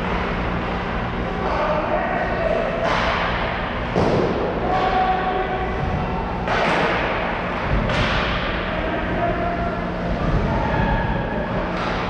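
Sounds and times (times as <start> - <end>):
hubbub of ice rink: 0.0 - 12.0.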